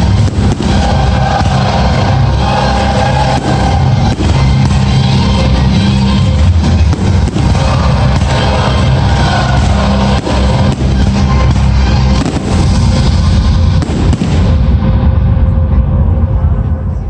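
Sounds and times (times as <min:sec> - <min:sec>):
fireworks cracks and bangs: 0:00.0 - 0:14.8
loud music with chords: 0:00.0 - 0:16.8.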